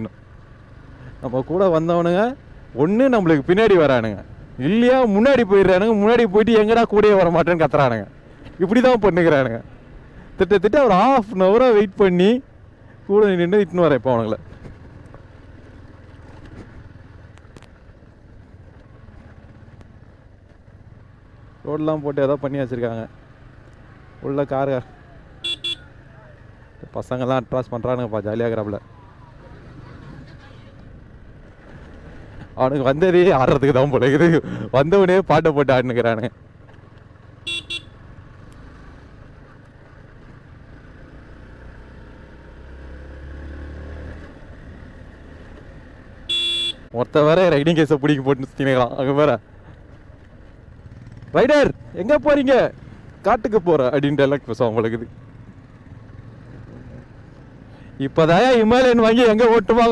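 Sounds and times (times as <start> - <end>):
motorcycle engine rumbling: 0.0 - 59.9
road and wind noise: 0.0 - 59.9.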